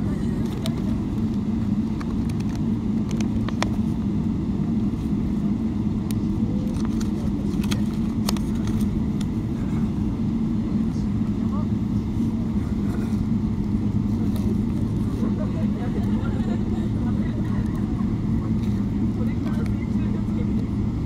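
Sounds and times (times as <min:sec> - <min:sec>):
aircraft engine drone: 0:00.0 - 0:21.0.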